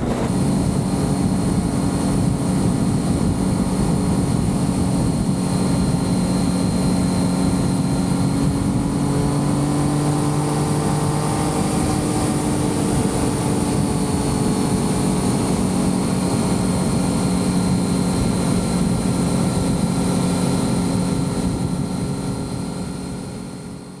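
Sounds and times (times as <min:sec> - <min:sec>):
motorcycle engine cruising: 0:00.0 - 0:23.9
wind and road noise: 0:00.0 - 0:24.0.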